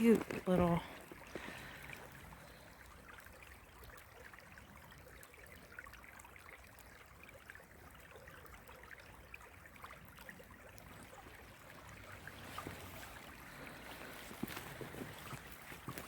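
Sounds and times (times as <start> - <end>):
creek water trickling: 0.0 - 16.0
soft water rush: 0.0 - 16.0.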